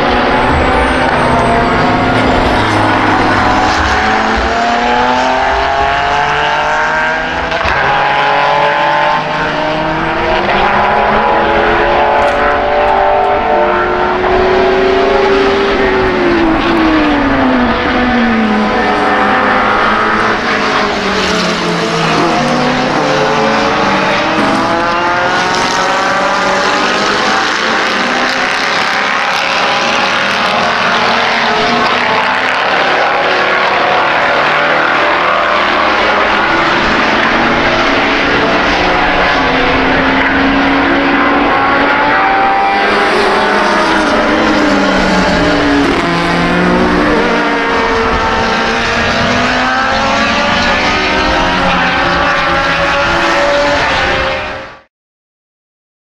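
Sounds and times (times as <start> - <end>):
racing car engines at full throttle: 0.0 - 54.9.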